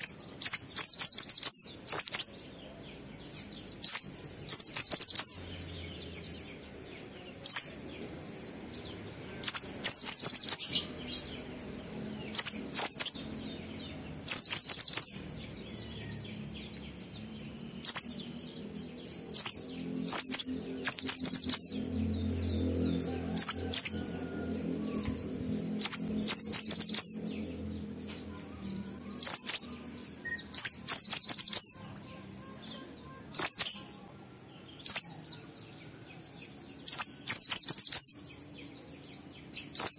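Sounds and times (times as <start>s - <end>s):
bird twittering: 0.0s - 2.4s, 3.2s - 6.8s, 7.4s - 27.8s, 28.8s - 34.1s, 34.8s - 35.4s, 36.8s - 38.3s, 39.6s - 39.9s.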